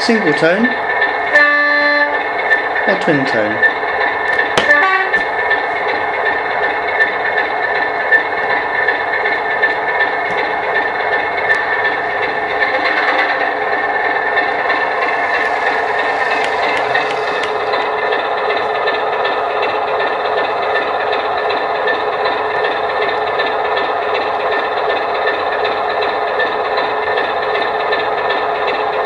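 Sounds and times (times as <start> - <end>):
diesel locomotive engine idling: 0.0 - 29.0.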